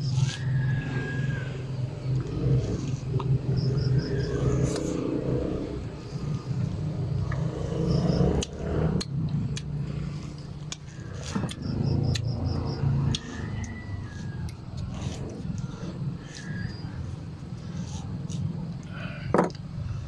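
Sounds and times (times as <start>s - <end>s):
steady low rumble: 0.0s - 20.0s
sucking and chewing fruit: 0.0s - 20.0s.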